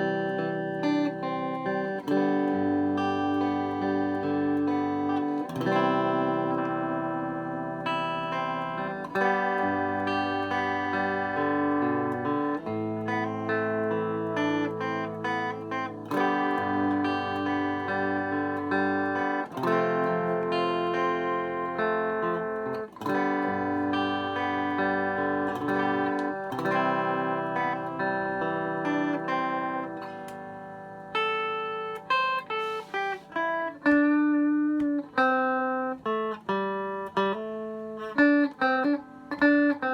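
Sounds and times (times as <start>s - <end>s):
clean electric guitar chords: 0.0s - 39.9s
picked guitar notes: 0.0s - 39.9s.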